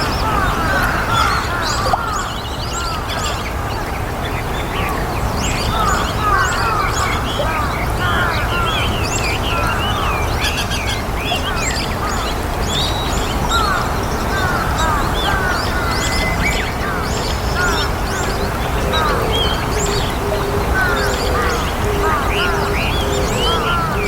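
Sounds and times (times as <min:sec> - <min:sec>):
starlings chirping: 0:00.0 - 0:24.0.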